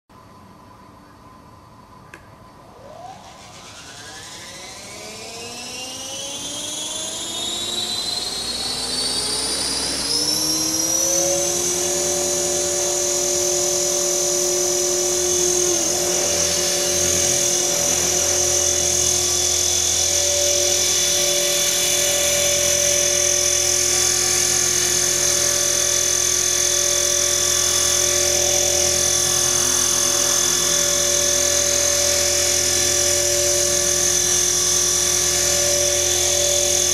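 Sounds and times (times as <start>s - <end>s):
rc helicopter motor whine: 2.6s - 36.9s.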